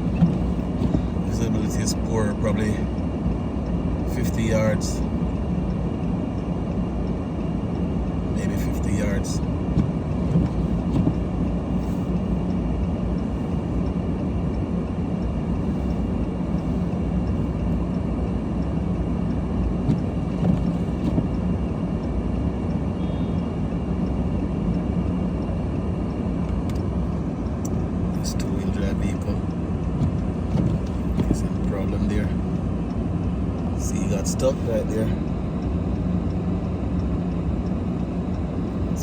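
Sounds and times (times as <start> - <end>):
car engine hum inside cabin: 0.0 - 39.0.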